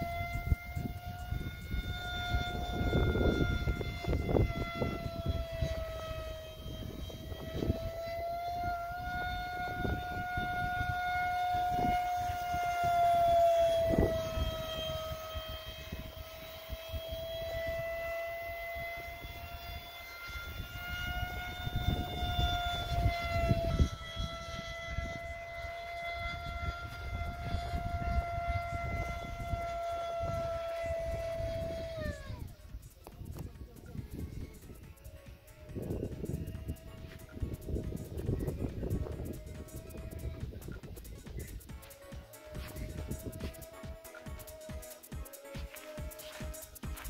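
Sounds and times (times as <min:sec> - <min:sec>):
model jet fan whining: 0:00.0 - 0:47.0
wind rumbling on microphone: 0:00.0 - 0:47.0.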